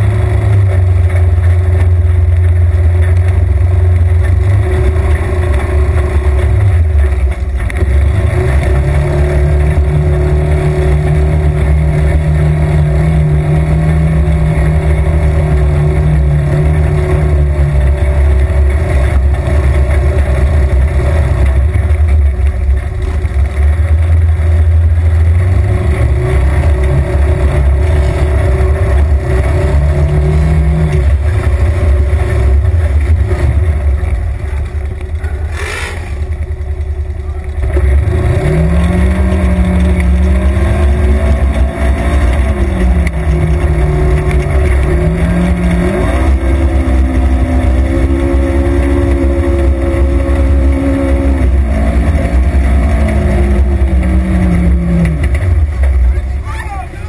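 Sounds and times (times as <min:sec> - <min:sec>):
off-road vehicle engine running: 0:00.0 - 0:57.0.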